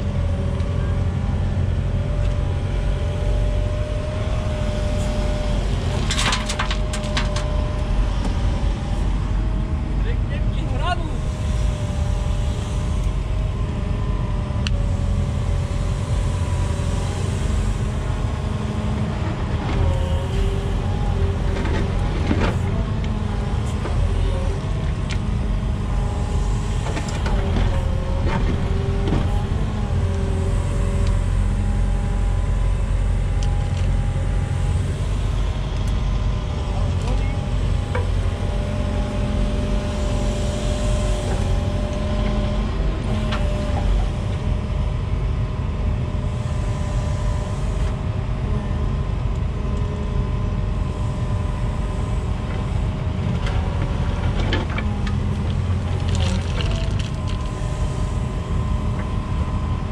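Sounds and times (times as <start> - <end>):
excavator diesel engine running: 0.0 - 59.9
hydraulics whining: 0.0 - 59.9.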